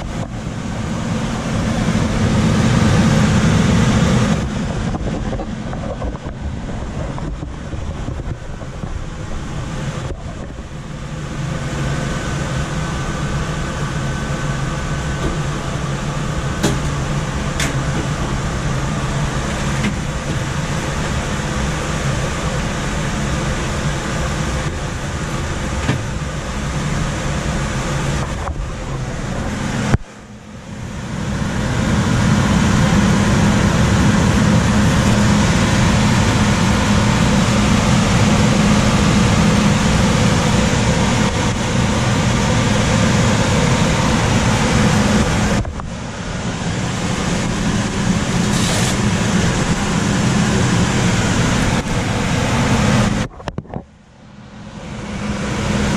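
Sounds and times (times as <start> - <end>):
furnace blower running: 0.0 - 53.4, 54.1 - 55.9.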